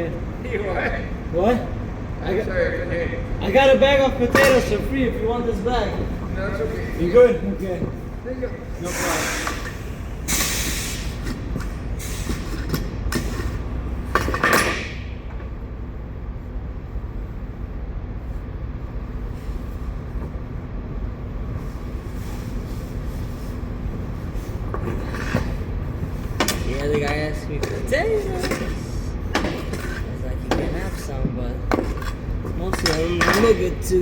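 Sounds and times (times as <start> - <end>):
low mechanical rumble: 0.0 - 34.0.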